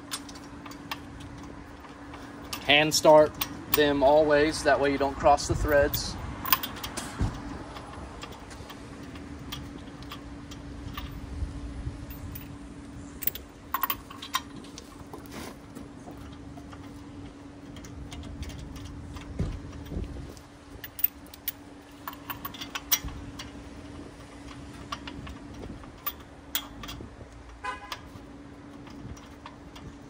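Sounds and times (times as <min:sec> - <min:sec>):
lug nuts clicking onto studs: 0:00.0 - 0:11.3, 0:12.1 - 0:30.0
steady low hum: 0:00.0 - 0:30.0.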